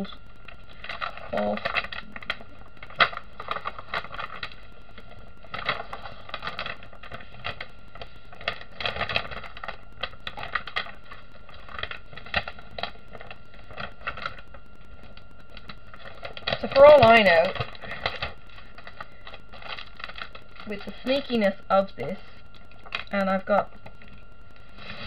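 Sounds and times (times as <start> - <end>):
plastic film crackling as peeled: 0.3 - 21.6, 22.4 - 25.0.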